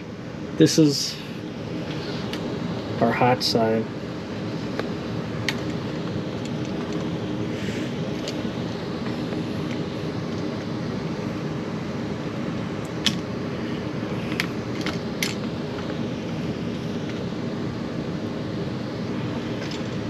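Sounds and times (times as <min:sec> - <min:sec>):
mechanical drone: 0:00.0 - 0:20.0.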